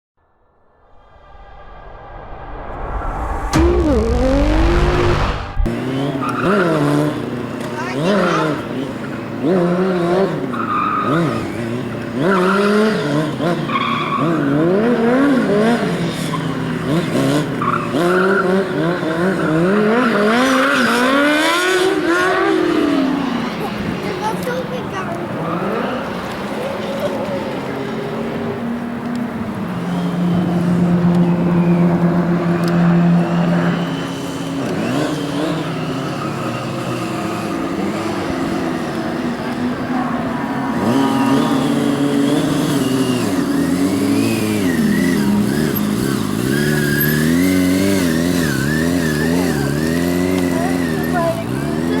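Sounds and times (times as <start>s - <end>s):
motorcycle engine revving: 3.3s - 23.8s, 29.7s - 52.0s.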